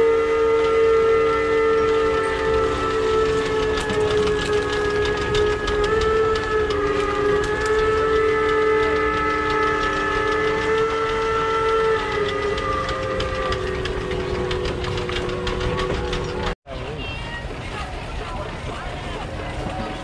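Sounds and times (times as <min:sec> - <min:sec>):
steam whistle chord: 0:00.0 - 0:16.6.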